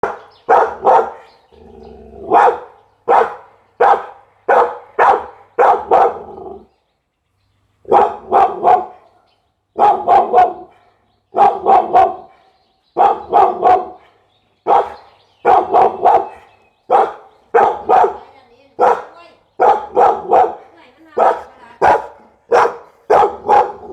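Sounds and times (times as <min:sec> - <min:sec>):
dog barking loudly: 0:00.0 - 0:01.4, 0:02.2 - 0:06.7, 0:07.9 - 0:09.2, 0:09.8 - 0:12.4, 0:13.0 - 0:23.9.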